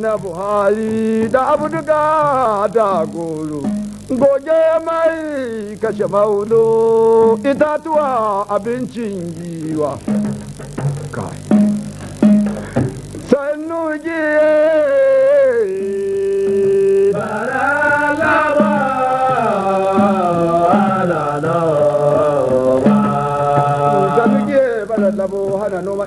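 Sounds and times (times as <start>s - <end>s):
man singing: 0.0s - 11.6s, 13.2s - 26.0s
drum strokes: 0.0s - 13.5s, 14.2s - 26.0s.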